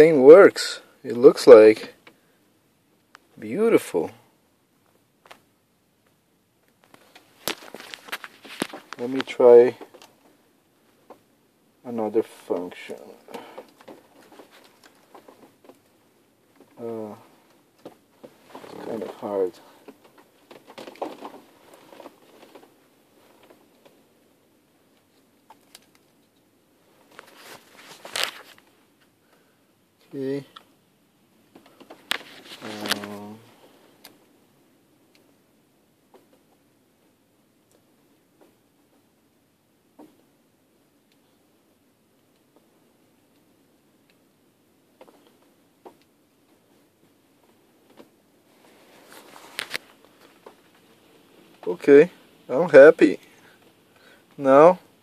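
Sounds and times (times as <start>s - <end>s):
rustle: 3.0s - 55.0s.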